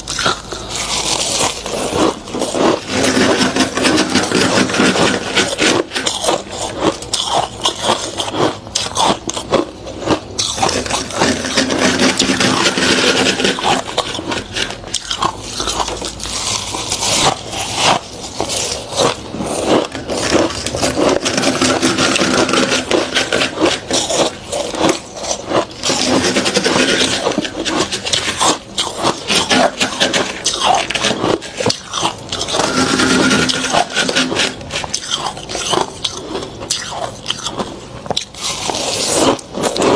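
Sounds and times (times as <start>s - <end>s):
freezer frost being scraped: 0.0s - 39.9s.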